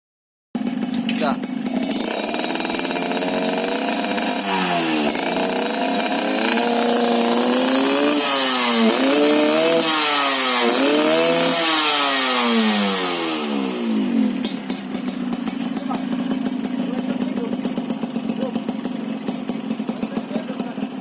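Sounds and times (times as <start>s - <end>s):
two-stroke engine revving: 0.6s - 21.0s.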